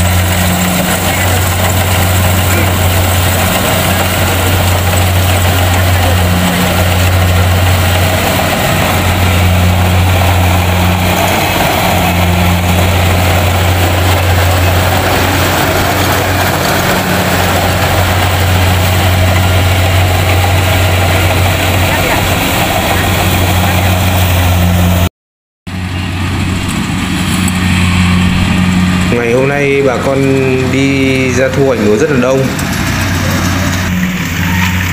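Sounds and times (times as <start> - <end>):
combine harvester diesel engine: 0.0 - 25.1, 25.7 - 34.9.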